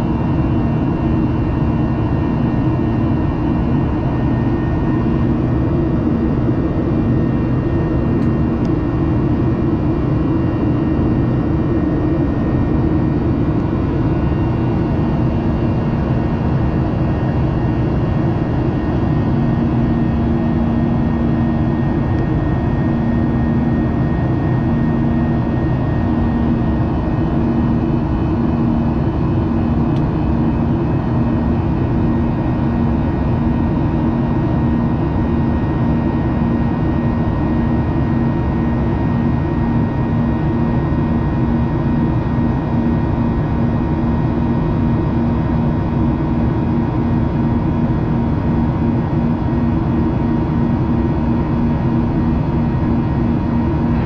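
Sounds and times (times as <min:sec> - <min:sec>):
jet engine roar: 0:00.0 - 0:54.0.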